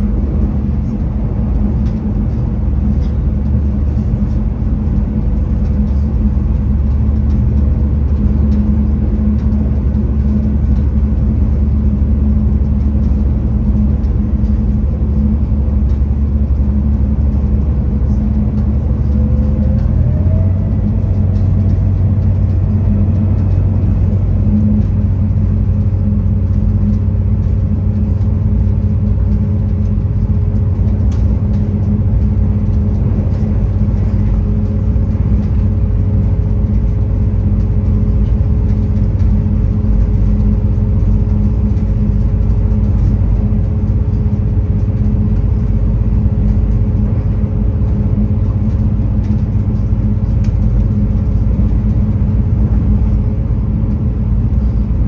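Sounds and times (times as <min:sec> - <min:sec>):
diesel railcar engine rumbling: 0:00.0 - 0:55.0
wheels on track: 0:00.0 - 0:55.0.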